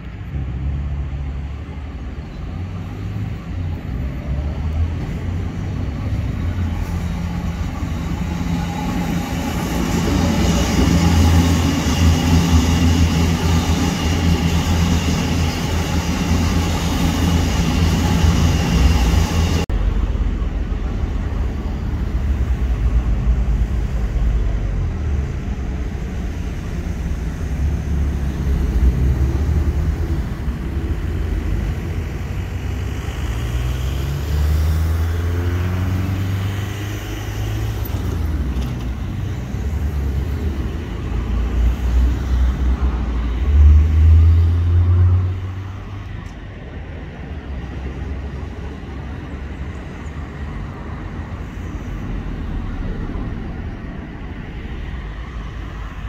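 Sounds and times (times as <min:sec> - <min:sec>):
distant road and rail traffic: 0:00.0 - 0:56.0.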